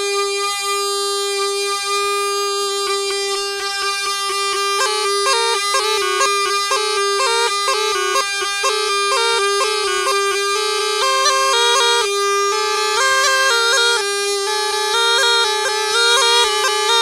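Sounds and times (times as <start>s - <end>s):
reedy pipe drone and melody: 0.0s - 17.0s.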